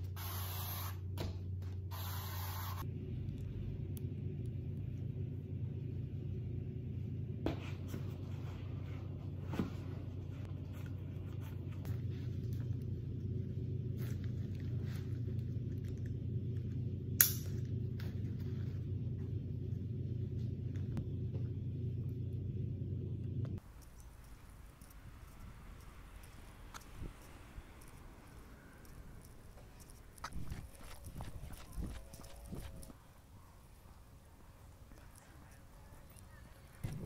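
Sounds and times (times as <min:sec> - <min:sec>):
low room rumble: 0:02.8 - 0:37.0.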